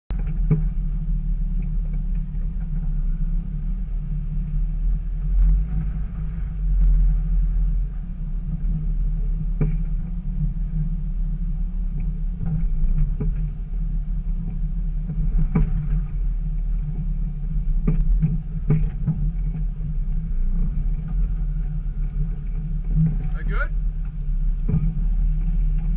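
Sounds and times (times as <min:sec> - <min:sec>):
engine running low rumble: 0:00.1 - 0:25.9.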